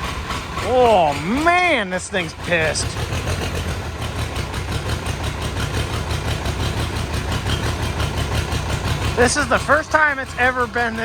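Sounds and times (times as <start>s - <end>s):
diesel tractor engine chugging: 0.0s - 11.0s.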